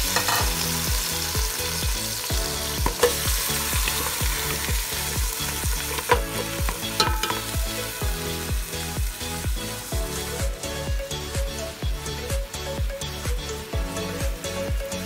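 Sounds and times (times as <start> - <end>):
background music with steady beat: 0.0 - 15.0
meat sizzling in a pot: 0.0 - 15.0.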